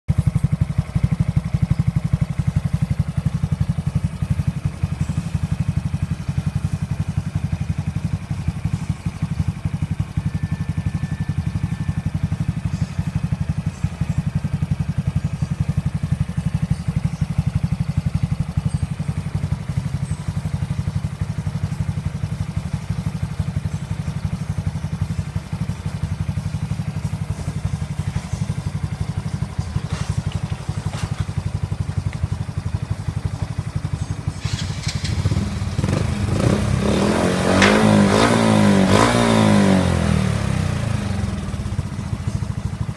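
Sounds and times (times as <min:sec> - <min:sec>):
motorcycle engine idling: 0:00.1 - 0:42.9.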